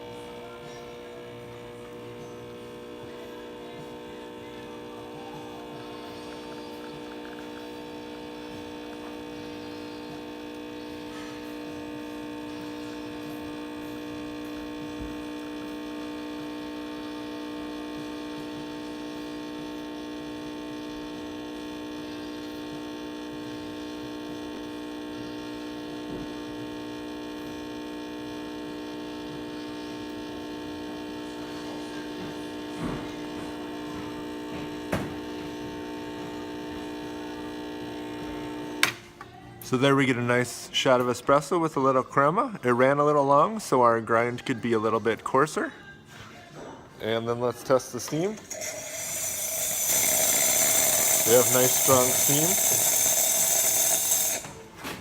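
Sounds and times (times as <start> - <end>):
espresso machine pump buzzing: 0.0 - 39.0, 47.6 - 54.8.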